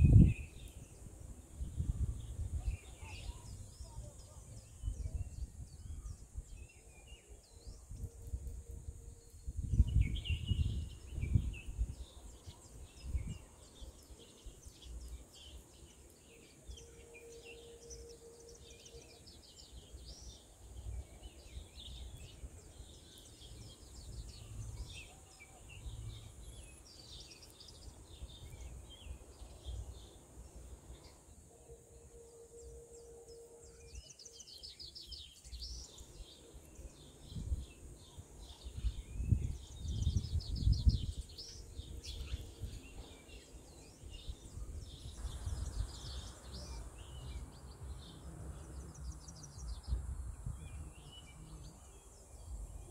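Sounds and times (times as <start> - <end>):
wind rumbling on microphone: 0.0 - 15.9, 19.2 - 31.3, 35.2 - 52.9
small birds chirping: 0.0 - 52.9.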